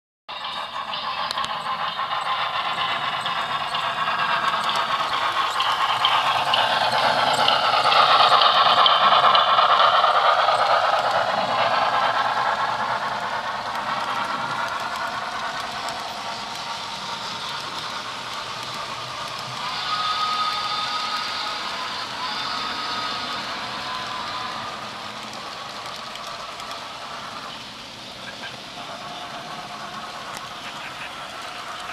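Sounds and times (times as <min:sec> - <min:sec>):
model train wheels clattering: 0:00.3 - 0:31.9.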